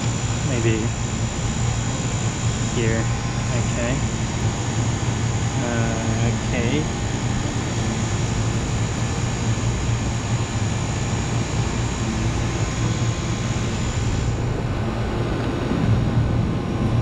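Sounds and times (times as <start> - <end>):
cooler unit humming: 0.0 - 17.0
faint high whine: 0.0 - 17.0.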